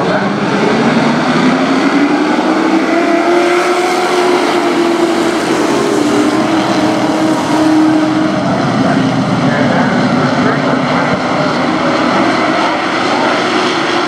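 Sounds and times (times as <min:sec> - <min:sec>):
racing truck engines droning: 0:00.0 - 0:14.0.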